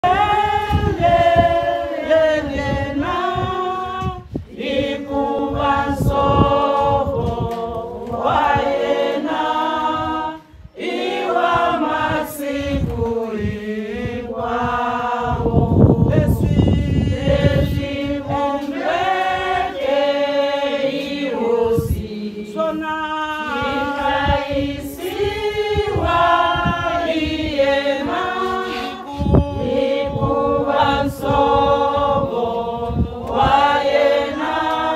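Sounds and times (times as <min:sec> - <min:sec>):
women singing a cappella: 0:00.0 - 0:34.9.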